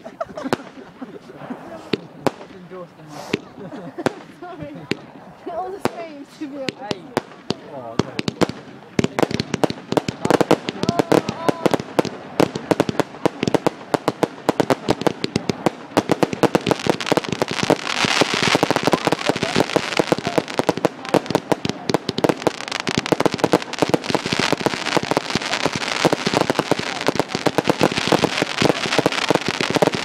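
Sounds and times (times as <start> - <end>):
fireworks crackling: 0.0 - 30.0
fireworks cracks and bangs: 0.4 - 30.0.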